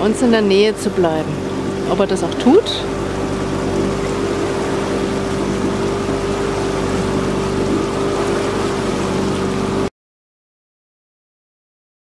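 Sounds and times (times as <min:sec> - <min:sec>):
boat engine humming: 0:00.0 - 0:09.9
water rushing along hull: 0:00.0 - 0:09.9.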